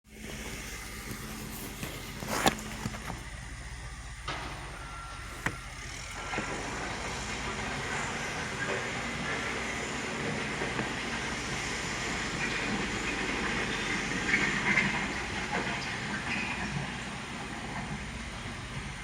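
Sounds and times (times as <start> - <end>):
backhoe engine running: 0.1 - 19.0.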